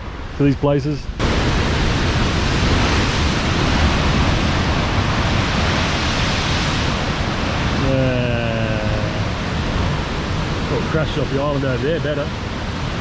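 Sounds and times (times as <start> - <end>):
heavy surf on rocky shore: 1.2 - 13.0.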